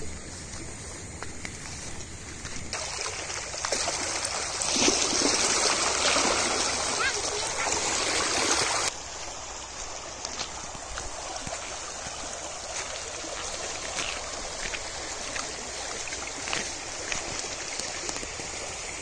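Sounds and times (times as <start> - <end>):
shallow water running in a ditch: 0.0 - 19.0.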